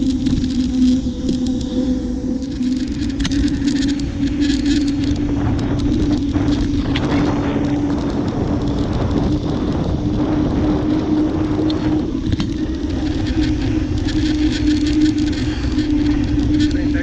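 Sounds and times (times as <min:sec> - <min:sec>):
bicycle road rumble: 0:00.0 - 0:17.0
steady hum: 0:00.0 - 0:17.0
wind rushing over microphone: 0:00.0 - 0:17.0.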